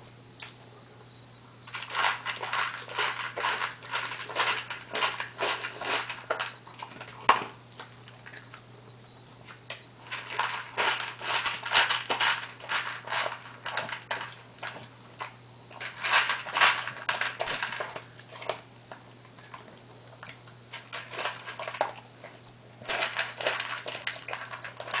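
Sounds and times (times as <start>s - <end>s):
dog crunching dry food: 1.7s - 8.8s, 9.4s - 25.0s.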